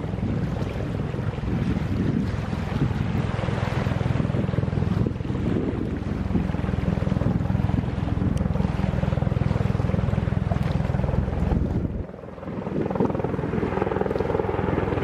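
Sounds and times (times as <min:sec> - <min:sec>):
helicopter rotor chopping: 0:00.0 - 0:15.0
wind buffeting microphone: 0:00.0 - 0:15.0.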